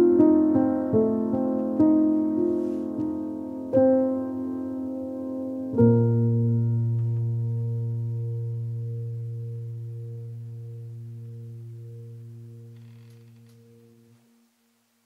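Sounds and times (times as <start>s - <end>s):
music held low chord: 0.0s - 14.5s.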